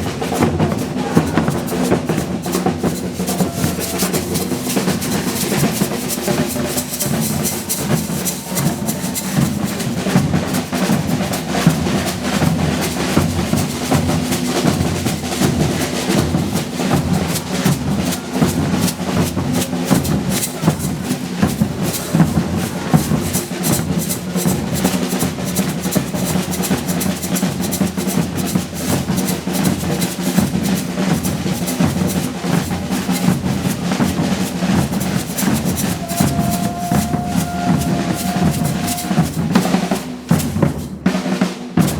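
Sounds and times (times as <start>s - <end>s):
percussion band drums: 0.0s - 41.9s.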